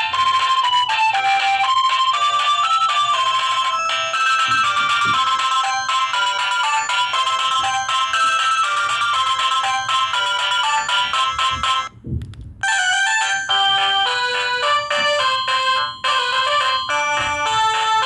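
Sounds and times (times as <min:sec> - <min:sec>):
phone ringtone melodies: 0:00.0 - 0:12.0, 0:12.6 - 0:18.0.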